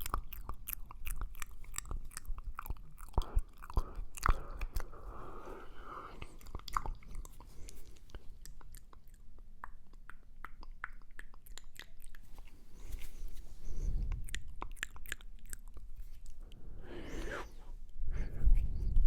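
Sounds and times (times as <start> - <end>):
wet mouth clicks and lip smacks: 0.0 - 5.1, 6.0 - 17.4.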